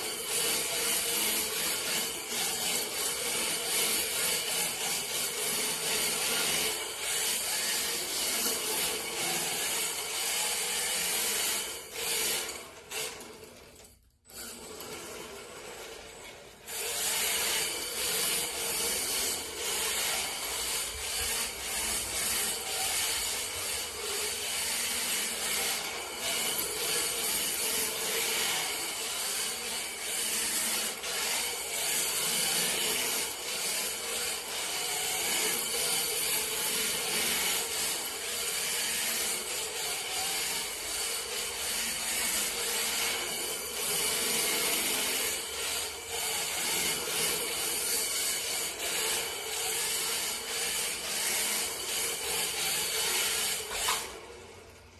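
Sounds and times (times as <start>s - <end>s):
rc car tyres scraping floor: 0.0s - 54.9s.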